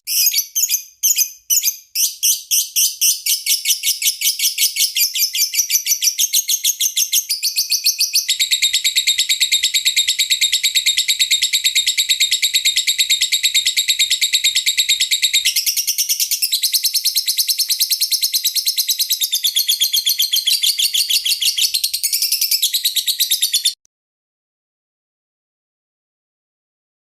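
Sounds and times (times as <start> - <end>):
lovebird chirping: 0.0 - 23.8.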